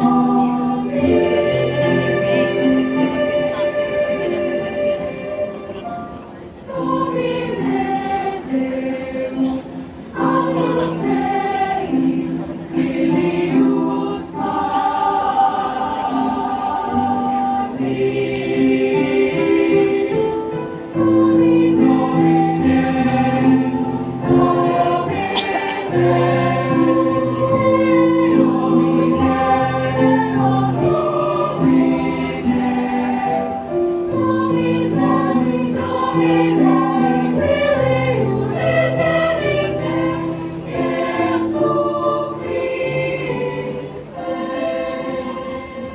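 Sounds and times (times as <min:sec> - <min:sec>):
children's choir singing: 0:00.0 - 0:45.9.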